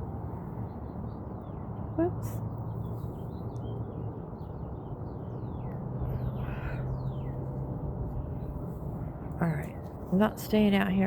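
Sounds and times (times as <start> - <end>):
birds chirping: 0.3 - 11.0.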